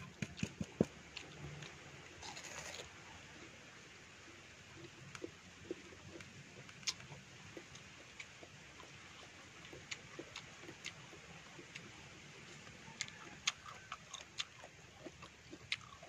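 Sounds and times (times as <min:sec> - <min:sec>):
chewing fruit: 0:00.0 - 0:03.6, 0:04.7 - 0:16.0.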